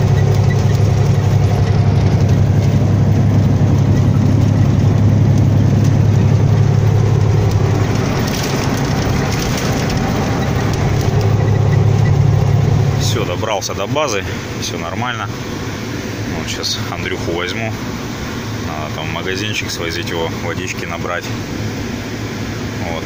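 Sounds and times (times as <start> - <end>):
road noise: 0.0 - 23.0
truck engine droning: 0.0 - 23.0.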